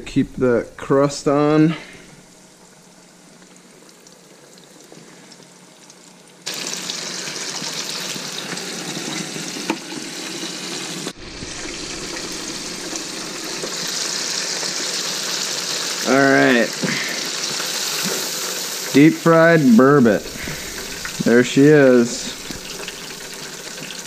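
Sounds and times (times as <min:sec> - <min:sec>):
hot oil sizzling: 0:00.0 - 0:24.0.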